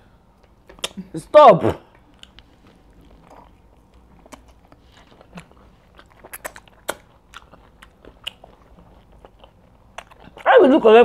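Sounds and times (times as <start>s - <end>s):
chewing and mouth smacking: 0.4s - 1.0s, 1.9s - 11.0s.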